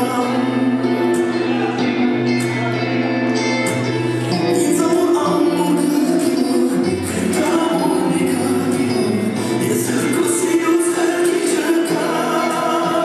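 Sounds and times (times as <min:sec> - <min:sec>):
bass line: 0:00.0 - 0:13.0
rumba dance music: 0:00.0 - 0:13.0.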